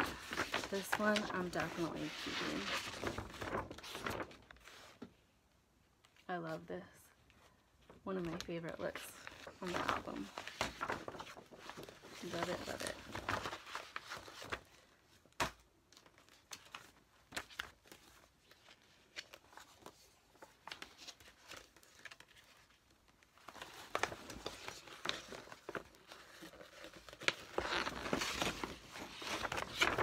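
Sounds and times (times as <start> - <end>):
sharp paper crackles: 0.0 - 4.8, 9.2 - 14.8, 15.4 - 30.0
paper rustling and crinkling: 0.0 - 5.1, 7.3 - 30.0.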